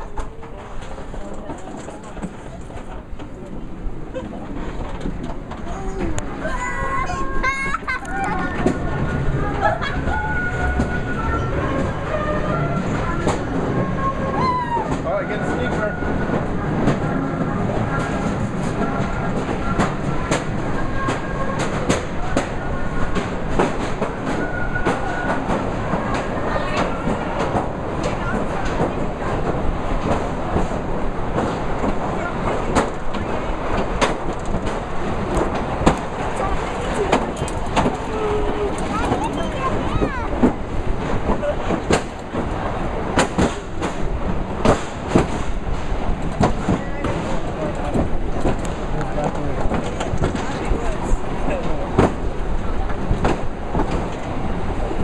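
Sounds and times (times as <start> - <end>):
rumble of wheels on rail: 0.0 - 55.0.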